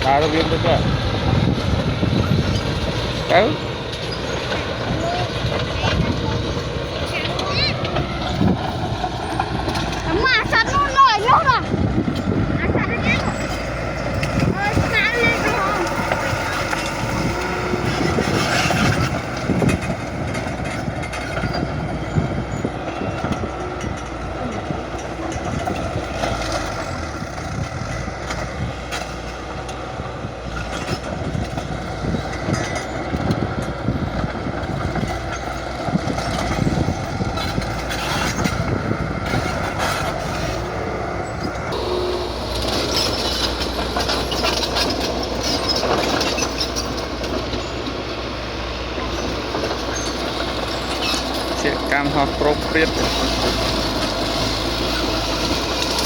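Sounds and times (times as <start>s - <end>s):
diesel engine running: 0.0s - 56.0s
steel tracks clanking and squealing: 0.0s - 56.0s.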